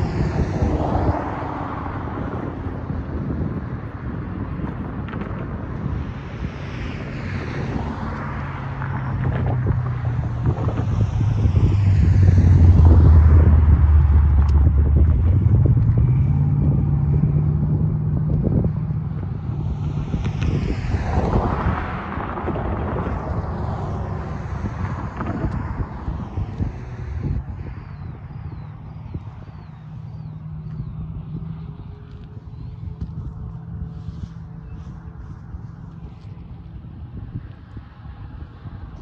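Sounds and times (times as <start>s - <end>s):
low engine drone: 0.0s - 39.0s.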